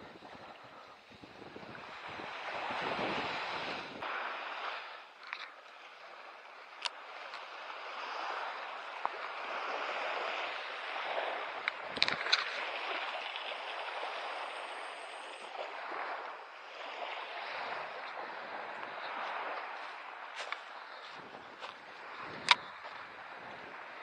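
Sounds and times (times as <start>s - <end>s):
small waves washing onto shore: 0.0s - 24.0s.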